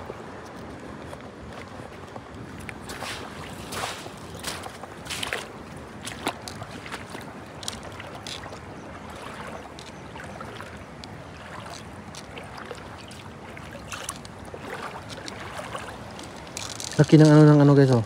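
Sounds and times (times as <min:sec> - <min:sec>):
water sloshing and lapping: 0:00.0 - 0:18.0
small splashes and clicks: 0:00.4 - 0:18.0.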